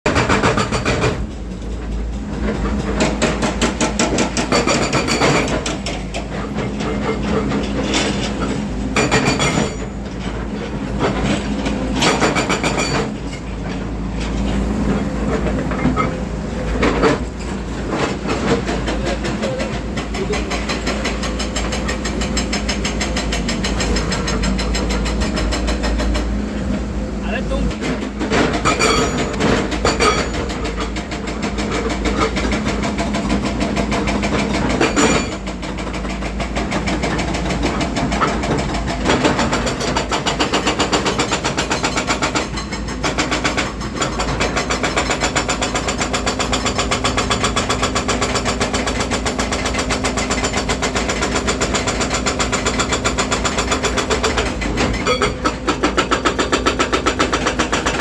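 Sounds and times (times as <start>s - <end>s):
excavator diesel engine running: 0.1s - 58.0s
hydraulic hammer pounding: 0.1s - 58.0s.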